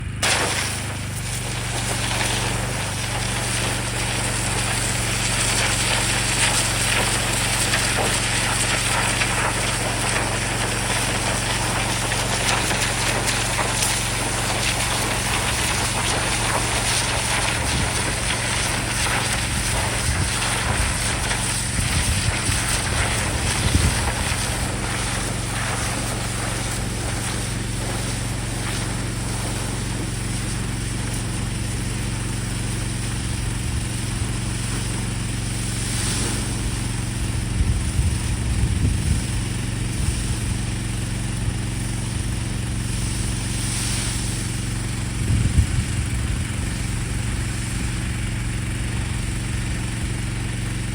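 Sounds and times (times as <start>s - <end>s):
pressure washer engine running: 0.0s - 50.9s
water jet hissing into soil: 0.0s - 50.9s.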